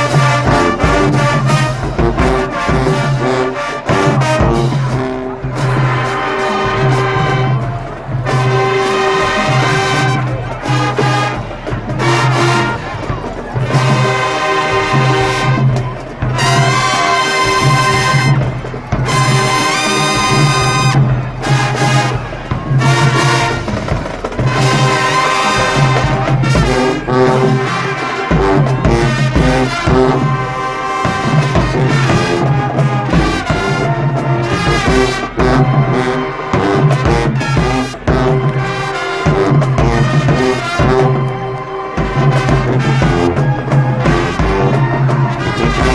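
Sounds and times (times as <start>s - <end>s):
marching band playing brass: 0.0s - 45.9s.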